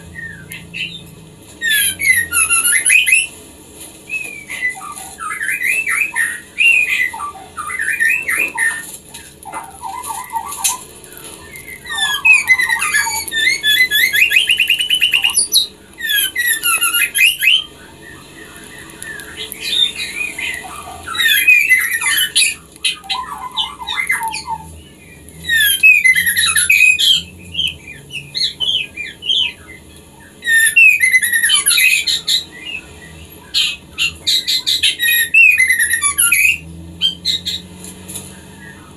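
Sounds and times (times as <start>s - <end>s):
bird chattering trills and whistles: 0.0s - 3.3s, 4.1s - 37.7s.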